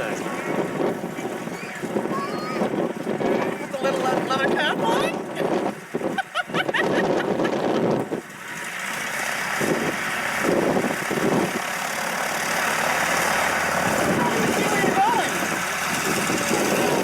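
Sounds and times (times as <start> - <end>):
propeller aircraft engine running: 0.0 - 17.0.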